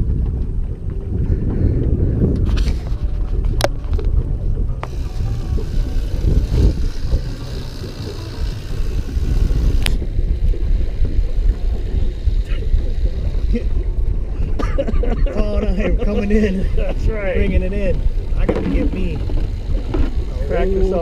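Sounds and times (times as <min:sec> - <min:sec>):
motorboat engine drone: 0:00.0 - 0:21.0
wind buffeting microphone: 0:00.0 - 0:21.0.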